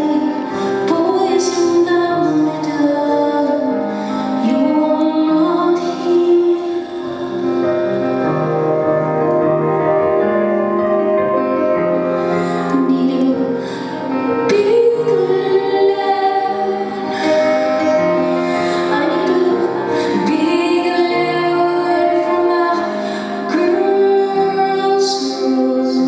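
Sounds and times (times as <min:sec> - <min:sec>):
woman singing: 0:00.0 - 0:08.3, 0:12.2 - 0:26.0
piano chords: 0:00.0 - 0:26.0.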